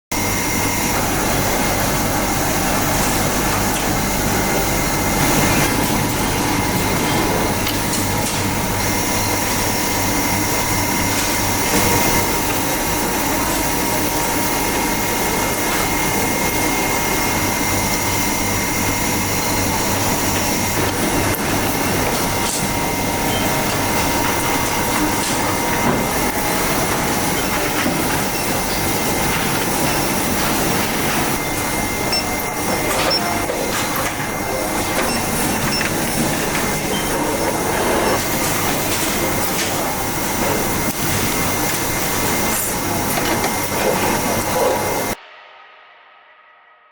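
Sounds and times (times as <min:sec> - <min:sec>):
machinery hum and hiss: 0:00.1 - 0:45.2
high steady whines: 0:00.1 - 0:46.5.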